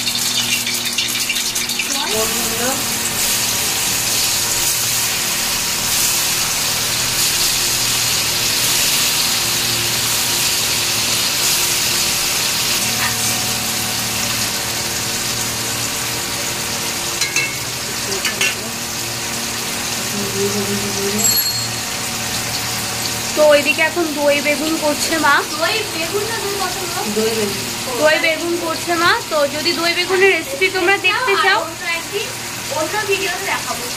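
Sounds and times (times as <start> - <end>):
deep-frying sizzle and bubbling: 0.0 - 33.9.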